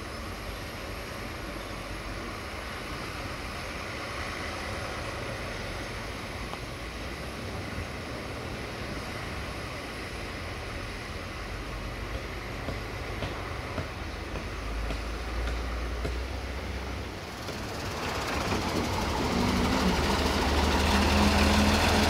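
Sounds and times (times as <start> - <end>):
truck diesel engine running: 0.3 - 22.0.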